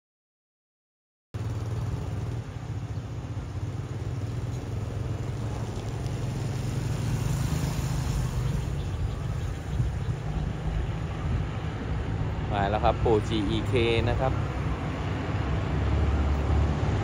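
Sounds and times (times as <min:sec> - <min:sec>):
locomotive diesel engine rumbling: 0:01.4 - 0:16.9.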